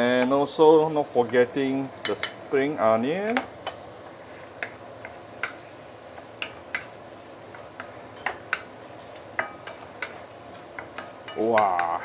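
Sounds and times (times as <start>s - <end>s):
sauce simmering: 0.0s - 12.0s.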